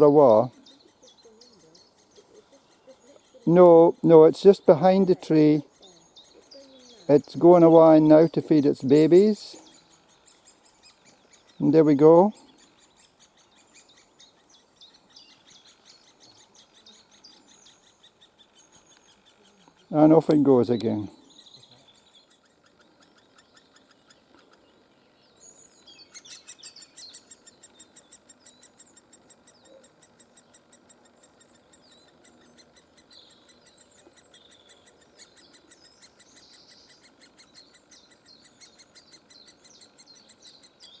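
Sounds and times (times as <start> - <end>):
nestlings chattering: 0.0 - 41.0
small birds singing faintly: 0.0 - 41.0.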